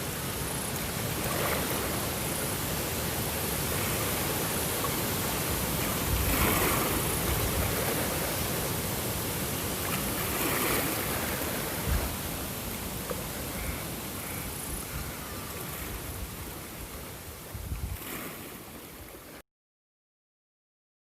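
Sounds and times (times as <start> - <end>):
rushing water: 0.0 - 19.4.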